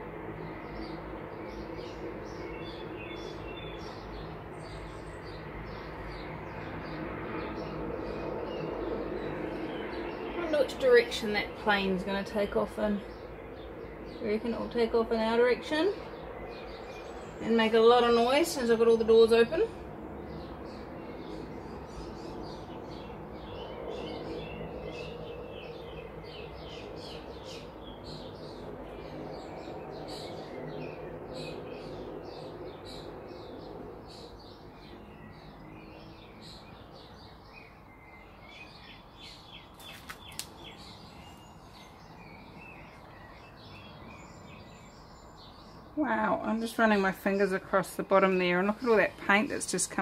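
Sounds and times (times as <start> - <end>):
distant aircraft rumble: 0.0 - 50.0
small birds chirping: 0.0 - 50.0.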